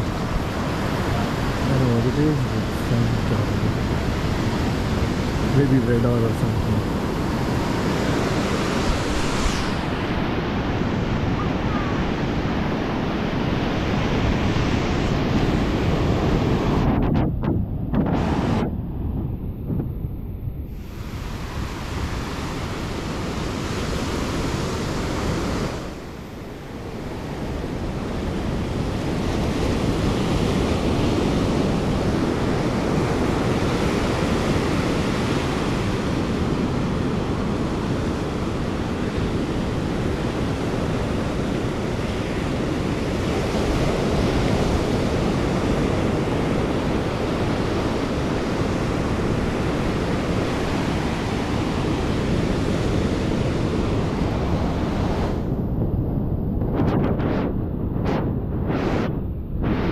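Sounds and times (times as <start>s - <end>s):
ocean surf breaking: 0.0s - 57.4s, 59.6s - 59.9s
wind buffeting microphone: 0.0s - 59.9s.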